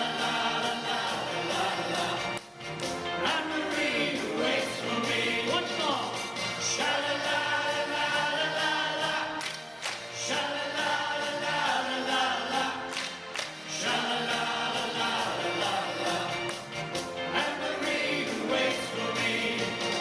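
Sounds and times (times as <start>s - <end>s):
choir singing held chords: 0.0s - 20.0s
musical accompaniment: 0.0s - 20.0s.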